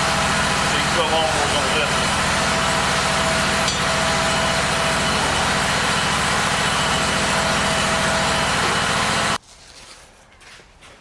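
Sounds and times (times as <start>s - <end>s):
mower engine idling: 0.0s - 9.4s.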